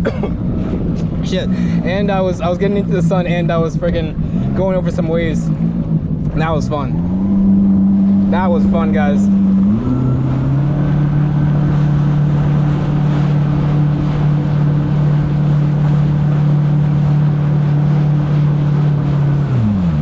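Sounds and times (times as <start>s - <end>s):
jet ski engine droning: 0.0s - 20.0s
rushing wind and water: 0.0s - 20.0s.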